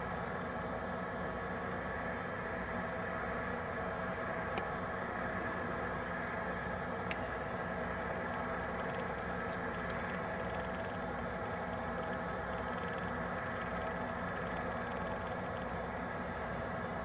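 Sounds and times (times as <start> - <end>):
machinery droning: 0.0 - 17.0.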